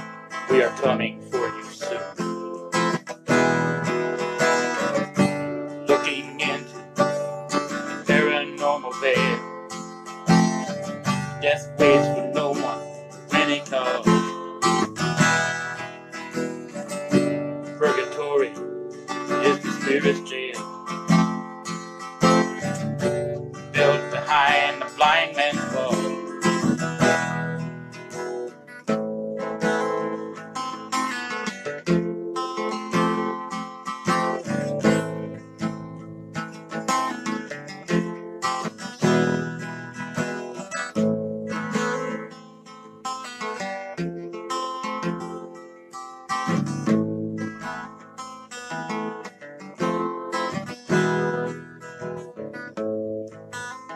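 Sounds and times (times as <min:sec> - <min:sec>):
strummed acoustic guitar chords: 0:00.0 - 0:53.9.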